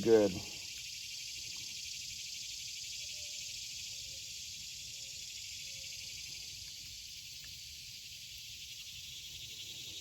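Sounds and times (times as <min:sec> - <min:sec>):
insect chorus chirring: 0:00.0 - 0:10.0.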